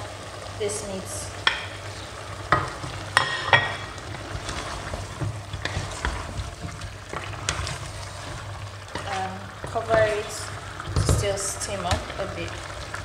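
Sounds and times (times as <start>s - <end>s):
meat sizzling in a pot: 0.0s - 13.0s
wooden spoon stirring: 2.5s - 13.0s.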